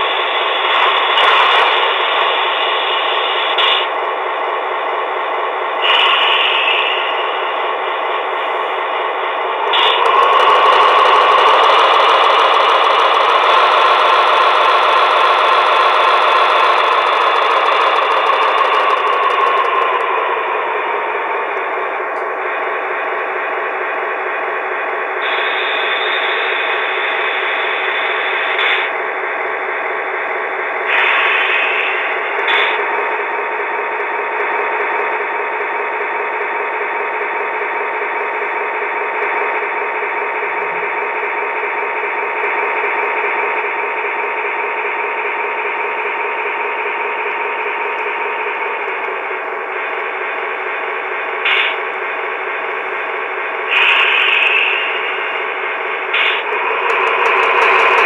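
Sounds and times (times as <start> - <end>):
tinny diesel engine drone: 0.0 - 58.0.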